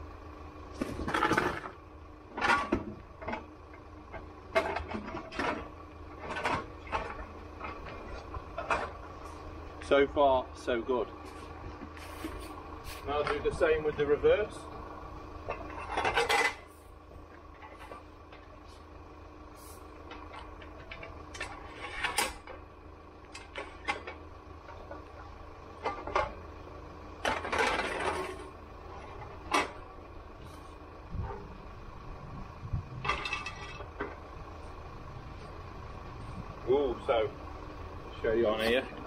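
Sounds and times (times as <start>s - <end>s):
engine humming: 0.0s - 39.0s
metal rails clanking on tarmac: 0.7s - 39.0s.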